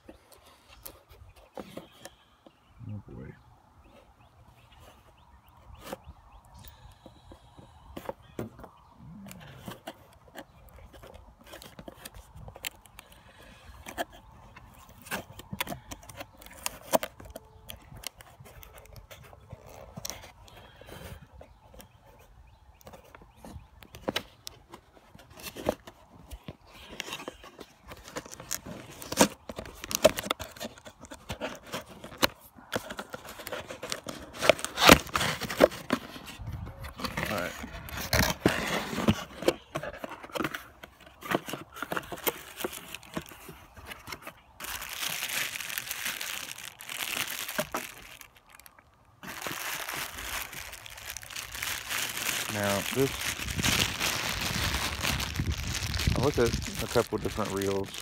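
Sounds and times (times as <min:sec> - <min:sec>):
cardboard packaging clicks and scrapes: 0:09.3 - 0:58.0.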